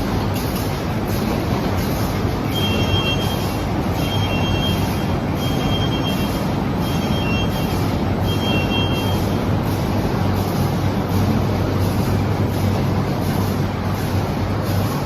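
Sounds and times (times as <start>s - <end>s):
bag-making machine running: 0.0s - 15.0s.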